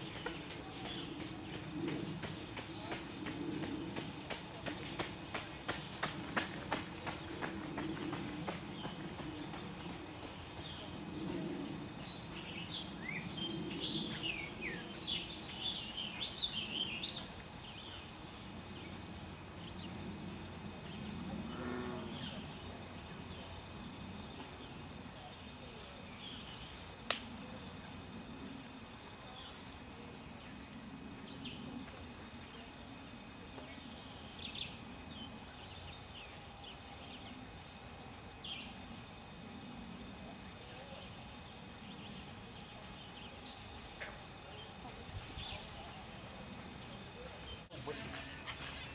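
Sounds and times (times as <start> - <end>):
low steady background rumble: 0.0 - 48.9
small birds chirping: 0.0 - 48.9.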